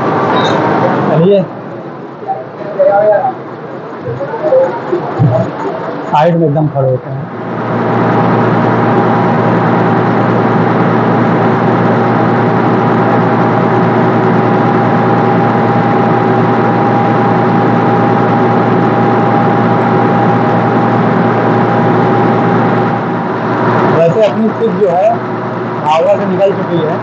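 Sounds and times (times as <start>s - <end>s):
ferry engine droning: 0.0s - 27.0s.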